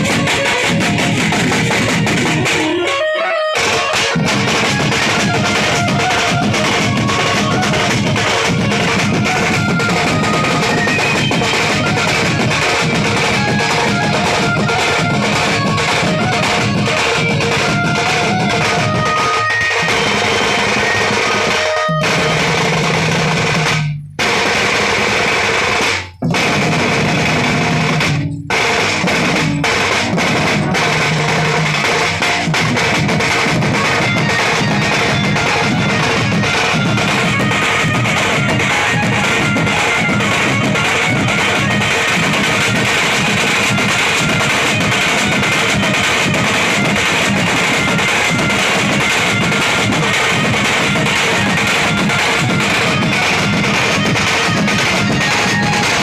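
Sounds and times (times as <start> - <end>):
band playing instrumental music: 0.0 - 23.9, 25.8 - 56.0
drum kit with snare and cymbals: 0.0 - 56.0.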